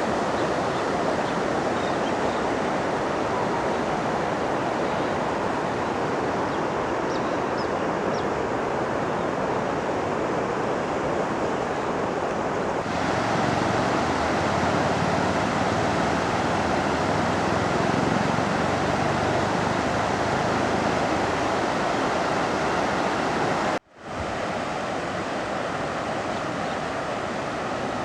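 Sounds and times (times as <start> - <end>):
river floodwater rushing: 0.0 - 28.0.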